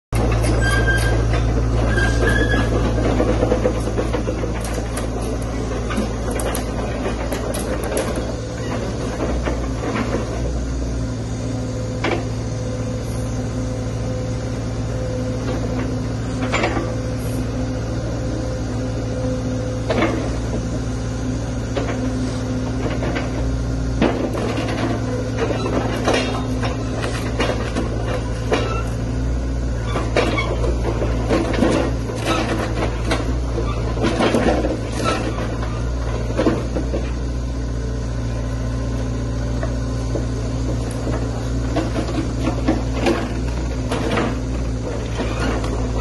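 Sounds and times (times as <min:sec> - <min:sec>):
excavator diesel engine running: 0:00.2 - 0:46.0
hydraulics humming: 0:00.2 - 0:46.0.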